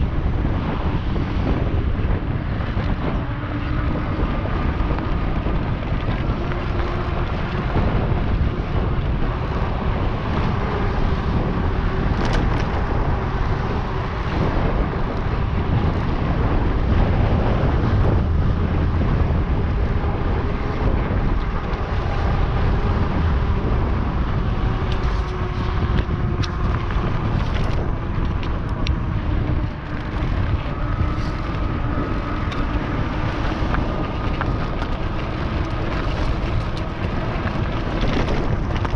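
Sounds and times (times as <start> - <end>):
electric motor whine: 0.0 - 38.9
tyre noise: 0.0 - 38.9
wind buffeting microphone: 0.0 - 38.9.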